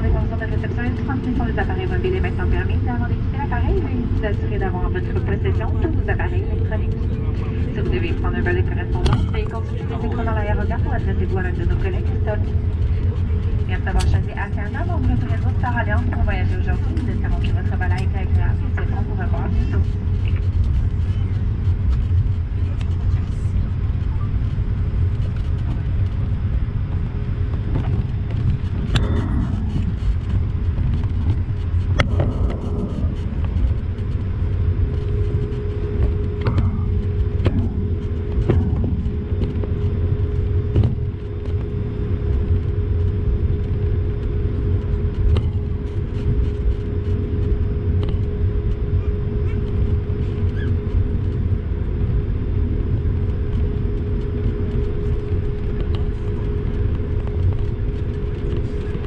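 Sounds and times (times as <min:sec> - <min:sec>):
aircraft cabin rumble: 0:00.0 - 0:59.0
steady hum: 0:00.0 - 0:59.0.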